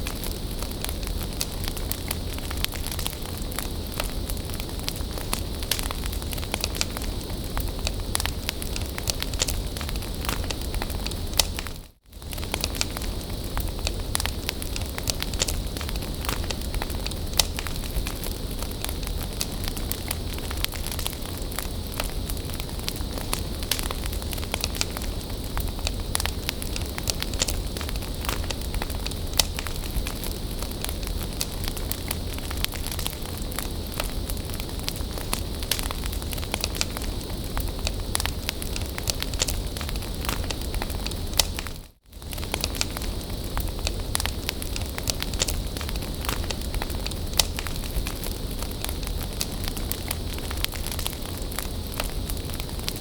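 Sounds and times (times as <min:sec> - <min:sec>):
bonfire crackling and popping: 0:00.0 - 0:53.0
fire hiss: 0:00.0 - 0:53.0.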